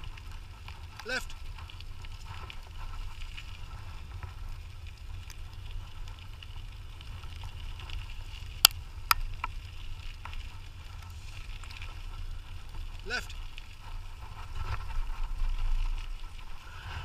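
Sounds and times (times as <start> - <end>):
scooter rolling rumble: 0.0 - 17.0.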